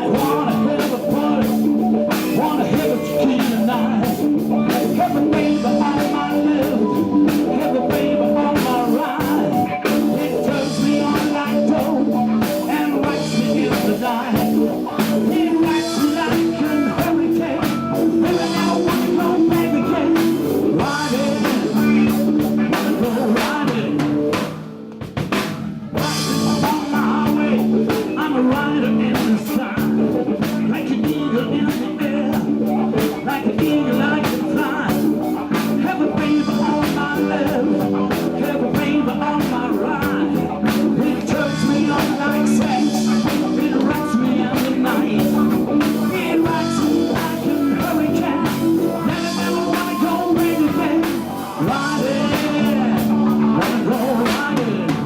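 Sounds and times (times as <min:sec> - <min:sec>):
blues-rock band playing: 0:00.0 - 0:55.0.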